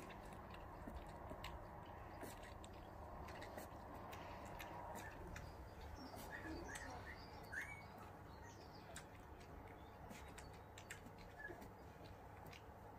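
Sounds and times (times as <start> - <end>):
puppies squeaking: 0.0 - 12.7.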